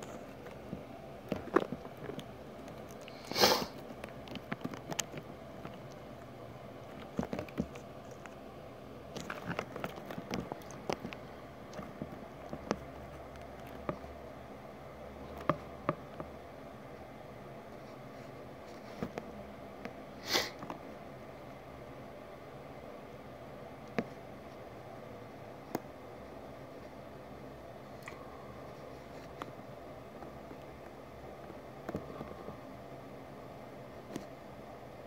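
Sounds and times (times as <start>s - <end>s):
steady low hiss: 0.0s - 35.0s.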